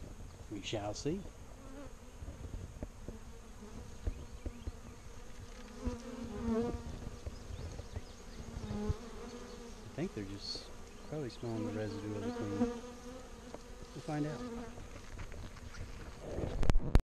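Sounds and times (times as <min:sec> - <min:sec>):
bees buzzing: 0:01.3 - 0:16.3.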